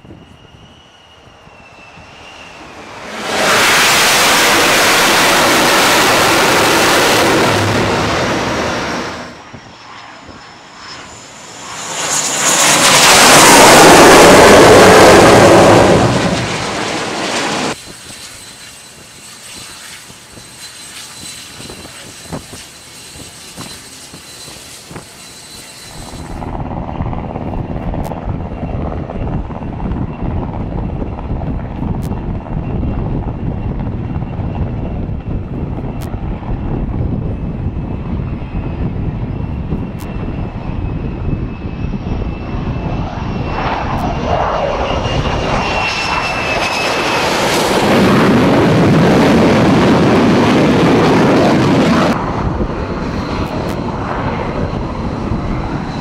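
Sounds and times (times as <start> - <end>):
distant aircraft rumble: 0.0 - 56.0
jet engine roar: 0.0 - 56.0.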